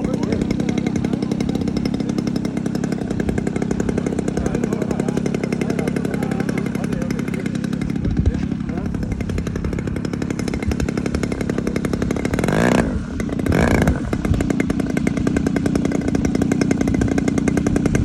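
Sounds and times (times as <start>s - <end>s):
model aircraft engine passing: 0.0s - 18.0s.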